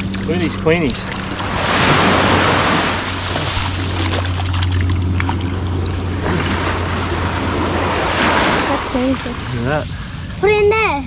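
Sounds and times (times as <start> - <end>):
steady low drone: 0.0 - 11.0
water at shore: 0.0 - 11.0
wind: 0.0 - 11.0.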